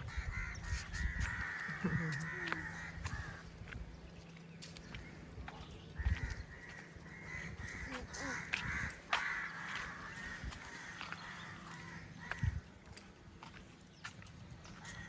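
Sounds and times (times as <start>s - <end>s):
crows cawing: 0.0s - 3.9s, 4.9s - 13.0s, 14.7s - 15.0s.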